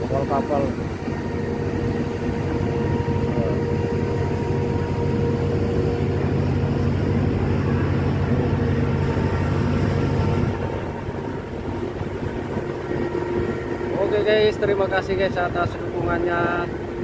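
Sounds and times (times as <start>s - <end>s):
faint steady whine: 0.0s - 17.0s
ship engine droning: 0.0s - 17.0s.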